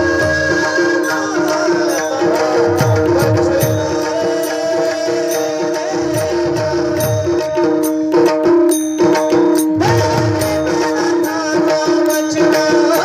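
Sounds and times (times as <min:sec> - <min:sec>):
jingling cymbal strikes: 0:00.0 - 0:13.0
tabla rhythm: 0:00.0 - 0:13.0.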